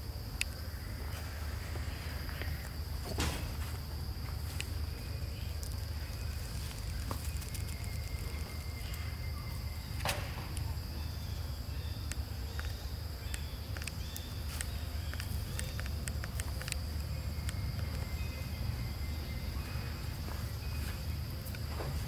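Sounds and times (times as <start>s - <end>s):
insects droning: 0.0s - 22.0s
low steady rumble: 0.0s - 22.0s.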